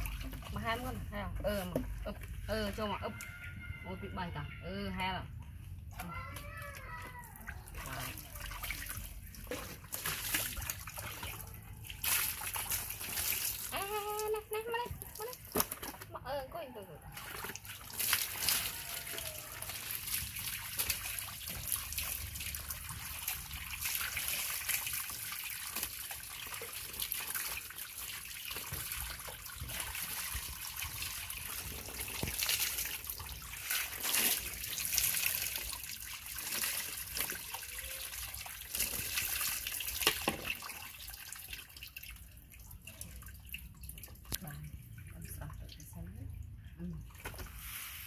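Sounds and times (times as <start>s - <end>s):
water splashing and trickling: 0.0s - 48.0s.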